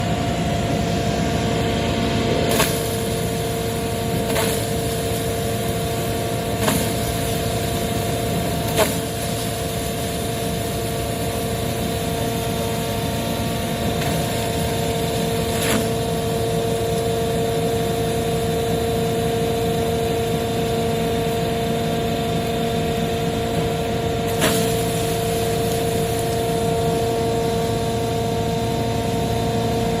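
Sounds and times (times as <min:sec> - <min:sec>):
sawdust crusher humming: 0:00.0 - 0:30.0.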